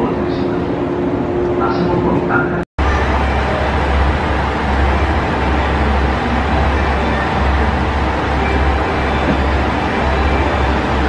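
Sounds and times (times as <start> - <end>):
trains rumbling and hissing: 0.0 - 11.0.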